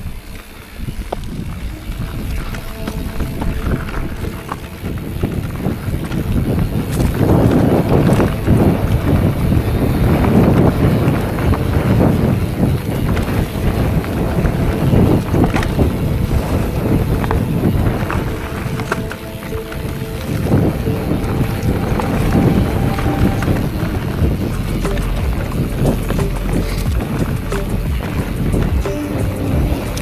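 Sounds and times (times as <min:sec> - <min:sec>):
bike rattling over rough ground: 0:00.0 - 0:30.0
wind buffeting microphone: 0:00.0 - 0:30.0.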